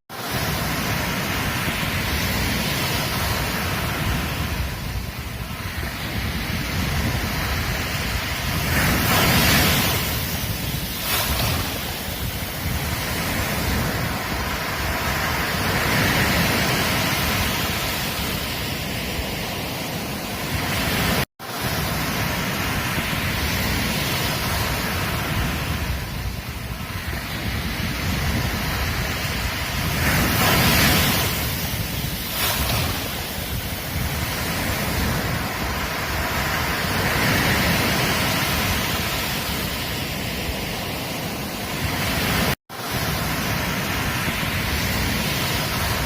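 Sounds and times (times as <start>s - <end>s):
ocean surf washing onto beach: 0.1s - 46.0s.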